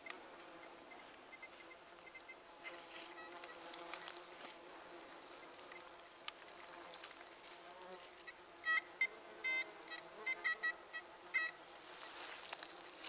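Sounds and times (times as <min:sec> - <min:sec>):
faint insects buzzing: 0:00.0 - 0:13.0.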